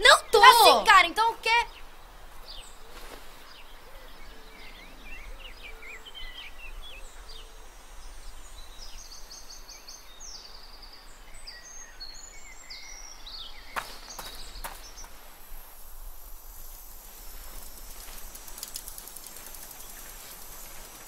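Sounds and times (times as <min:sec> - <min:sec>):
small birds chirping: 0:00.0 - 0:15.3, 0:17.2 - 0:21.0.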